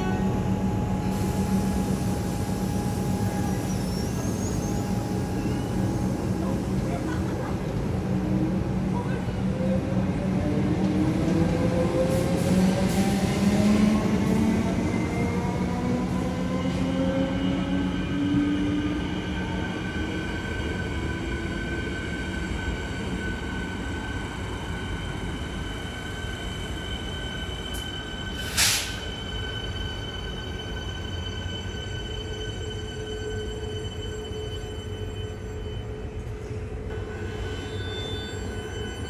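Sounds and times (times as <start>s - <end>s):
low train rumble: 0.0s - 39.0s.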